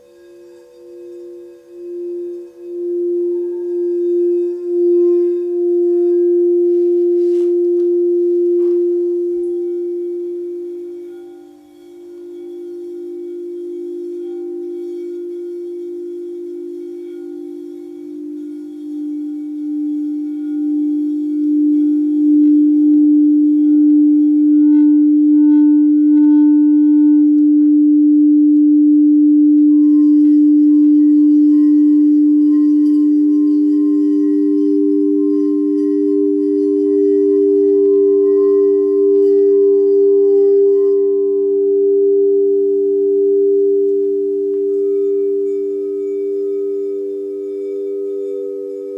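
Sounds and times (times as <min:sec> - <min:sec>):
higher singing bowl tone: 0:00.0 - 0:48.9
low singing bowl tone: 0:00.0 - 0:48.9.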